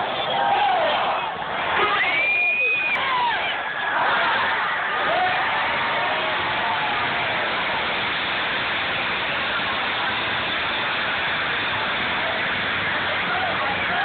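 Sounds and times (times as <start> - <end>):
buses racing past: 0.0 - 14.0.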